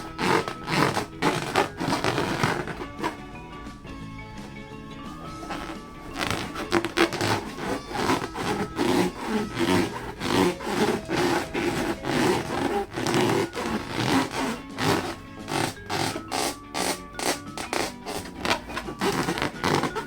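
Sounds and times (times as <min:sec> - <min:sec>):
hands rubbing a rubber balloon: 0:00.0 - 0:20.0.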